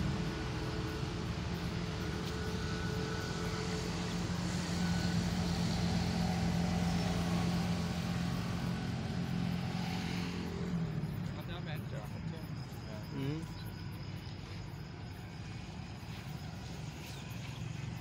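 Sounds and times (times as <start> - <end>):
steady engine drone: 0.0 - 18.0.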